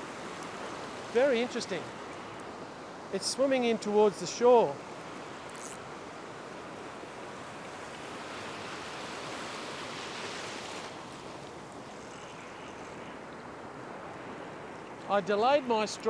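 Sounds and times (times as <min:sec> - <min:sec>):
small waves breaking in surf: 0:00.0 - 0:03.7, 0:04.3 - 0:16.0.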